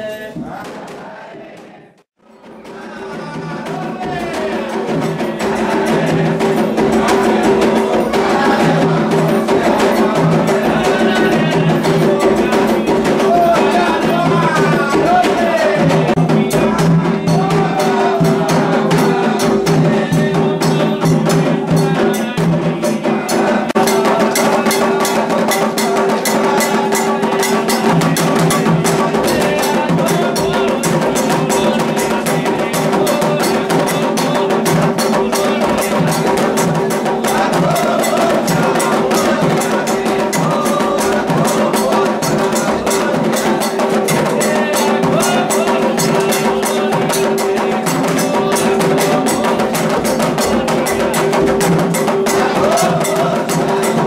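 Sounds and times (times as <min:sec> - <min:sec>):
hand drums: 0:00.0 - 0:54.0
voices singing: 0:00.0 - 0:54.0.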